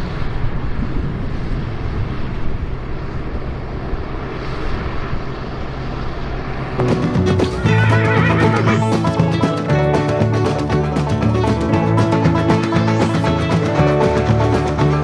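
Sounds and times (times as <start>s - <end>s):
wide rushing noise: 2.8s - 15.0s.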